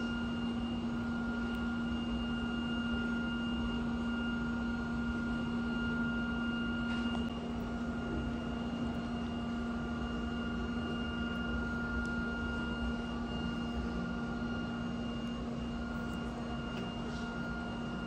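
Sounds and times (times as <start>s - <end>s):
mechanical hum and hiss: 0.0s - 18.0s.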